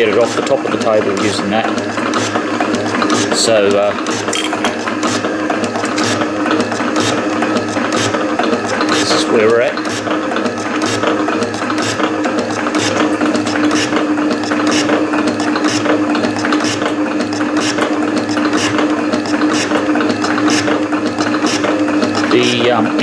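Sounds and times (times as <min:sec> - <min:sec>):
metal shaper motor hum: 0:00.0 - 0:23.0.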